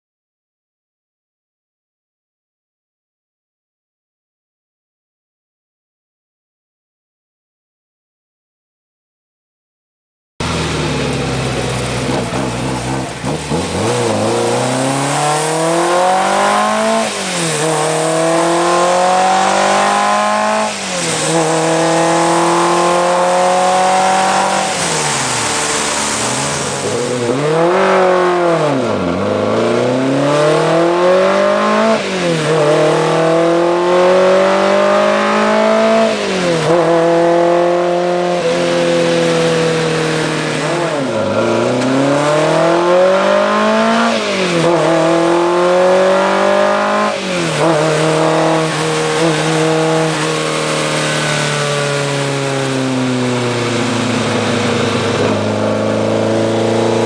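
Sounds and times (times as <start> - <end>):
car engine revving hard: 10.4 - 57.0.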